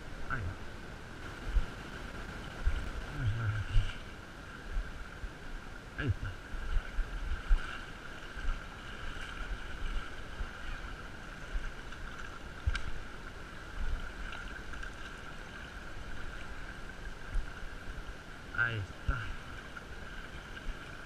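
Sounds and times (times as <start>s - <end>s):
low wind: 0.0s - 21.0s
river water running: 0.0s - 21.0s.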